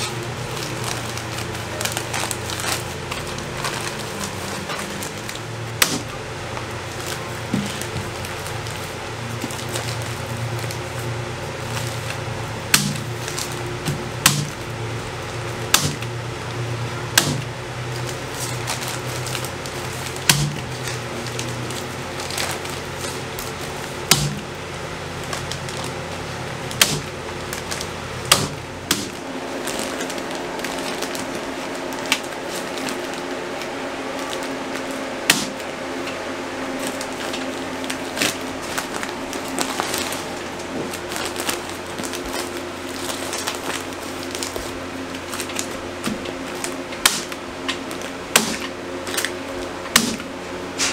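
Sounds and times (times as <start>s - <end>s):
low hum of held tones: 0.0s - 50.9s.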